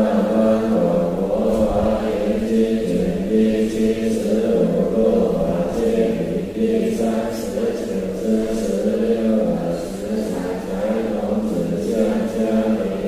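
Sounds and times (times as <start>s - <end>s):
voices chanting in unison: 0.0s - 13.0s.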